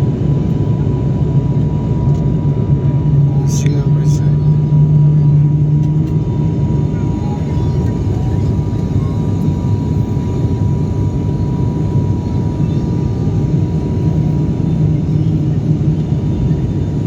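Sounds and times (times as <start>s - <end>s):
airliner engines droning: 0.0s - 17.0s.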